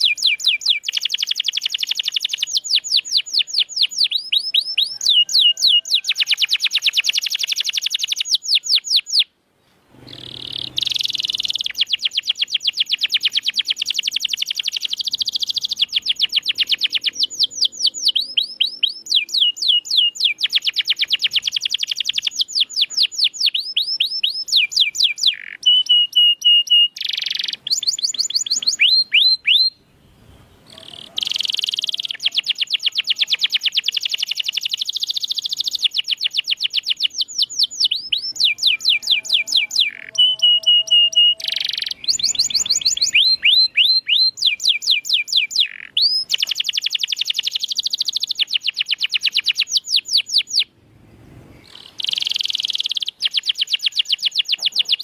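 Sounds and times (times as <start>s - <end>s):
canary singing trills: 0.0s - 9.3s, 10.0s - 50.7s, 51.5s - 55.0s.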